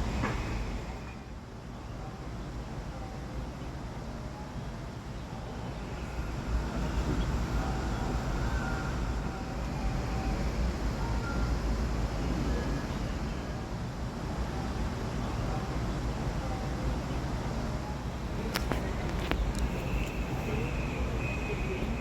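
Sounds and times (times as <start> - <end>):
city road traffic rumble: 0.0 - 22.0.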